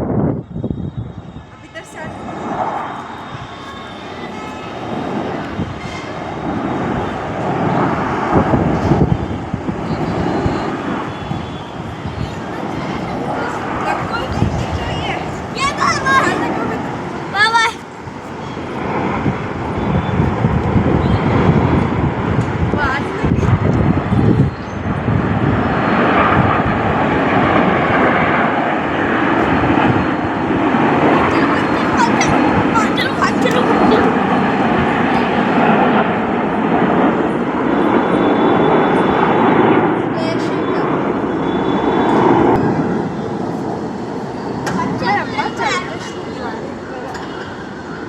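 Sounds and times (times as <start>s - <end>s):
aircraft flying overhead: 0.0s - 48.0s
wind buffeting microphone: 0.0s - 48.0s.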